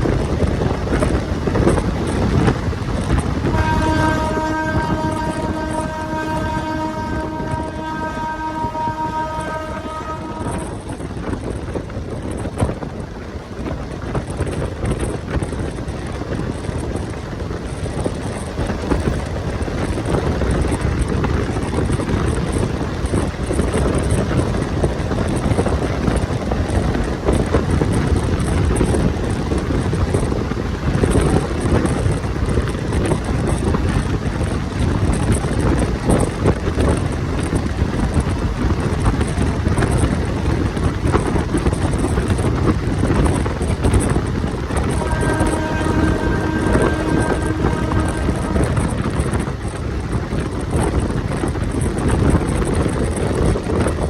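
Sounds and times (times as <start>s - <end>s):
train wheels rumbling on rail: 0.0s - 54.0s
wind buffeting microphone: 0.0s - 54.0s.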